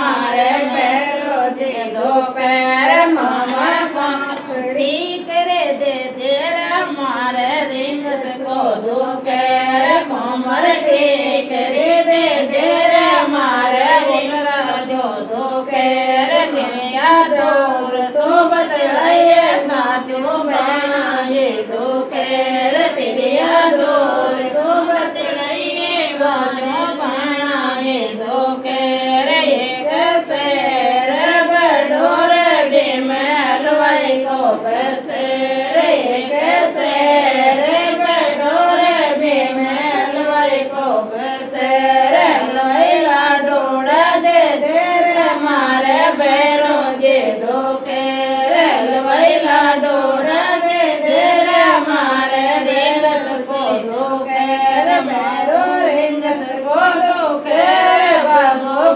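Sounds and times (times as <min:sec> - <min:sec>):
women singing a folk song: 0:00.0 - 0:58.9.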